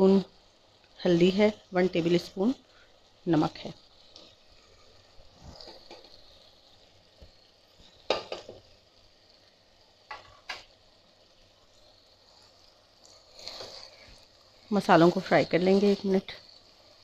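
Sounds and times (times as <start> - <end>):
masala sizzling in a pan: 0.0 - 17.0.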